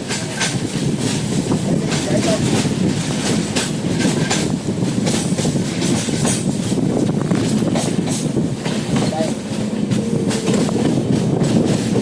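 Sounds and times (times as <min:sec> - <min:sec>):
clickety-clack of train wheels: 0:00.0 - 0:12.0
train wheels rumbling on rail: 0:00.0 - 0:12.0.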